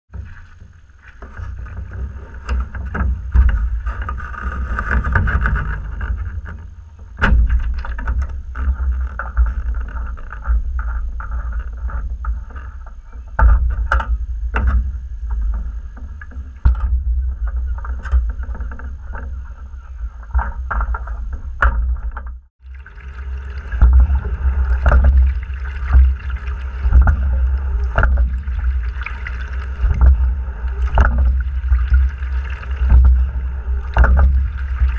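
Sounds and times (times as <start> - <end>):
low rumble against camera: 0.1 - 34.9
oars knocking: 0.1 - 34.9
water washing along hull: 0.1 - 34.9.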